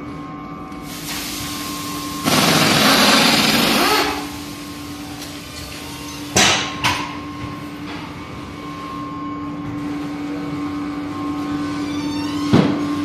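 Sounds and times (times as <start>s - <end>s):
steady hum: 0.0s - 11.6s.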